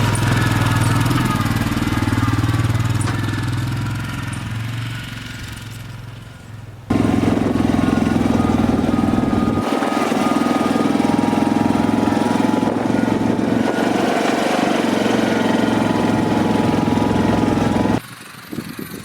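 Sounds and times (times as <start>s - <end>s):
engine running with fast pulsing: 0.0s - 19.0s.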